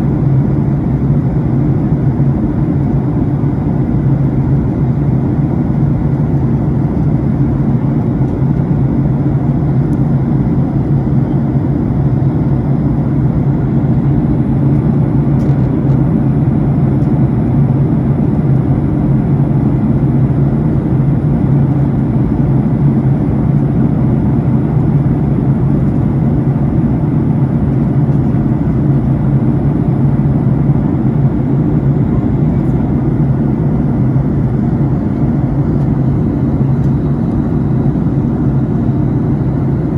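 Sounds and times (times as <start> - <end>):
jet airliner cabin drone: 0.0 - 39.9.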